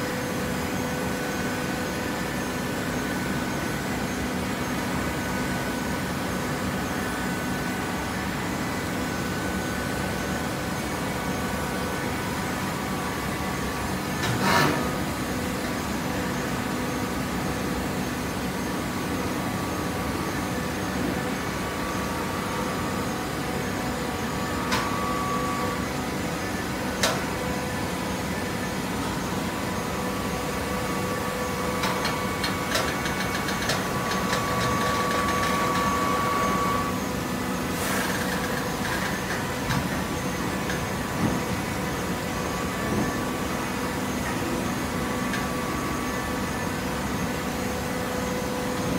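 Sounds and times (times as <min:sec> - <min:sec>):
motor and pump whining: 0:00.0 - 0:48.9.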